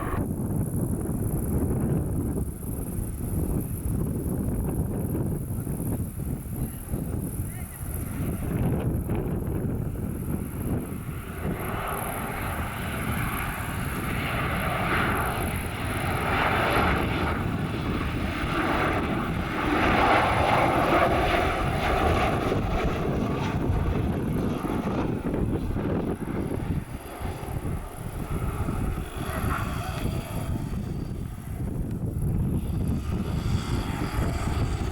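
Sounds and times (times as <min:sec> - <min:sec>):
airliner engines roaring: 0:00.0 - 0:34.9.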